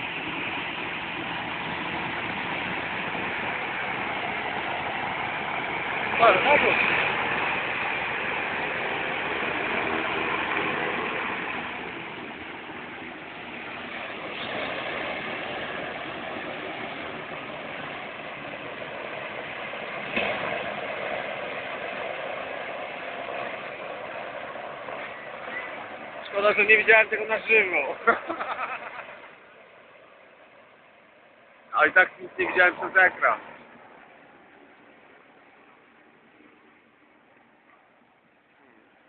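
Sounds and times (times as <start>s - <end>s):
hovercraft engines droning: 0.0s - 39.0s.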